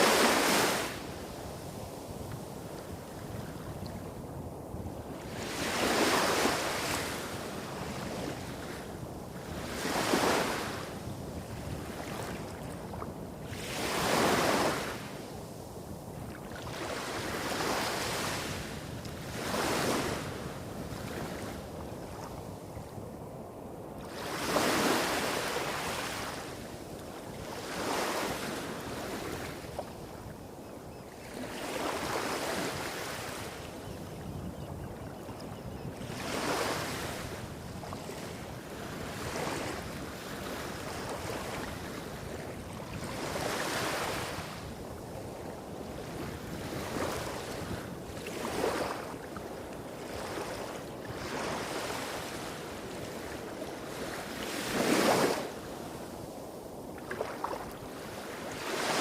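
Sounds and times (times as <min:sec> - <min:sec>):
small waves washing up a beach: 0:00.0 - 0:59.0.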